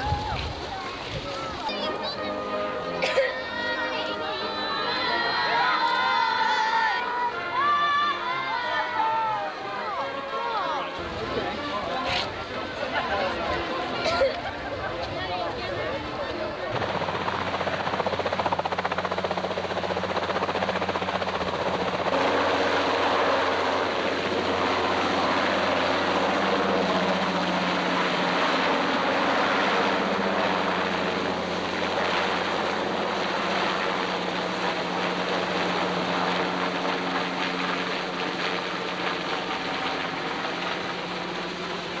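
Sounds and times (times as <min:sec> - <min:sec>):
helicopter turbine and rotor drone: 0:00.0 - 0:42.0.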